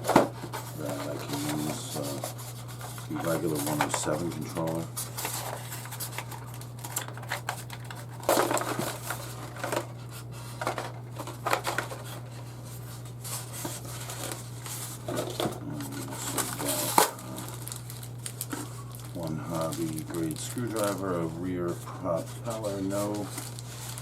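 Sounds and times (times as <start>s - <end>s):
steady low hum: 0.0s - 24.0s
plastic packaging rustling: 0.2s - 24.0s.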